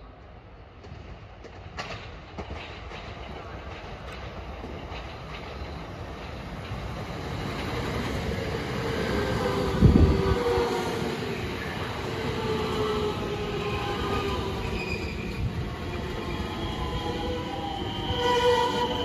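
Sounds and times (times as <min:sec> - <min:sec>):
electric train rail noise: 0:00.0 - 0:19.0
train whine: 0:00.0 - 0:19.0.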